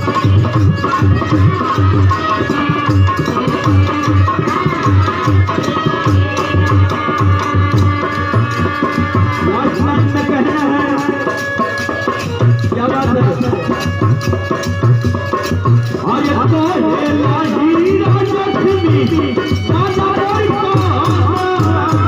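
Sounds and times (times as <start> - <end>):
hand drum beat: 0.0 - 22.0
sustained folk melody: 0.0 - 22.0.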